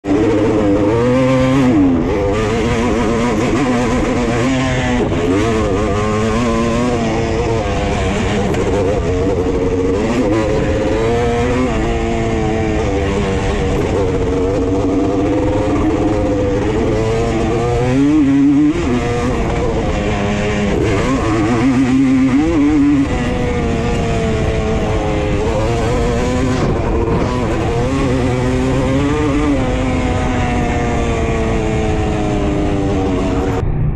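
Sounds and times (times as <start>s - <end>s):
atv engine revving: 0.0s - 33.8s.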